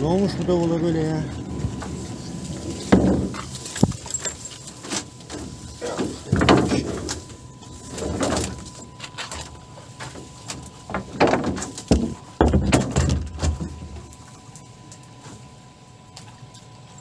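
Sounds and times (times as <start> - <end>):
branches and netting rustling: 0.0 - 17.0.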